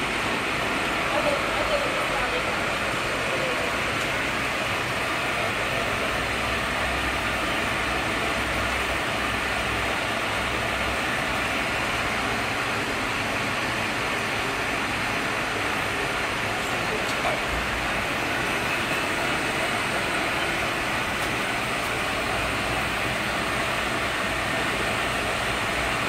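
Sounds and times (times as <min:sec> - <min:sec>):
machinery whirring: 0:00.0 - 0:26.0.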